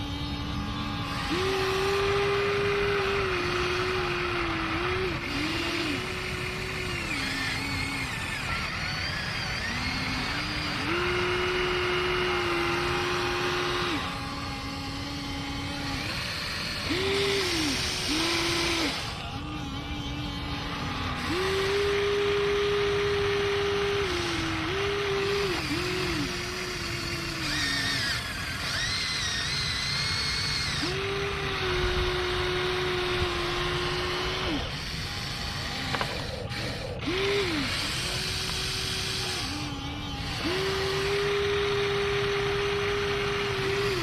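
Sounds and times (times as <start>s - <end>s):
electric motors whining: 0.0s - 44.0s.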